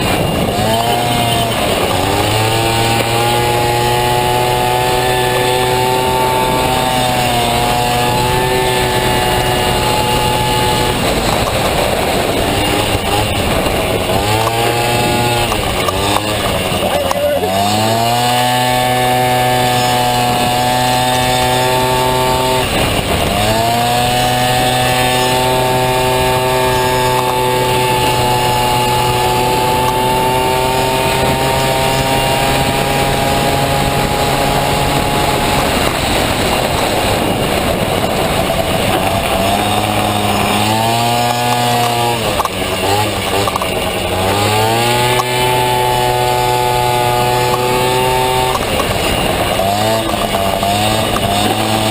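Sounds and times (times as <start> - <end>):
two-stroke scooter engine revving: 0.0 - 51.9.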